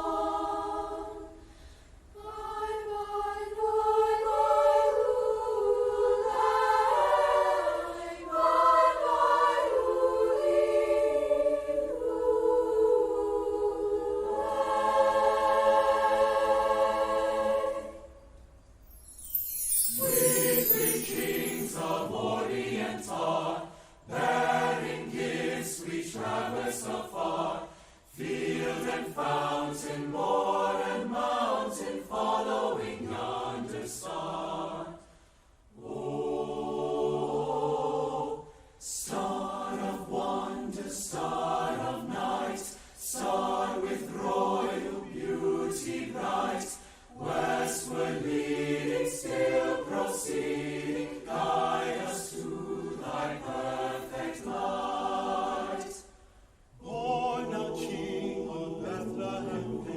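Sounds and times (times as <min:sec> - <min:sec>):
school choir singing: 0:00.0 - 0:01.4, 0:02.2 - 0:18.3, 0:19.1 - 0:35.1, 0:35.7 - 0:59.9.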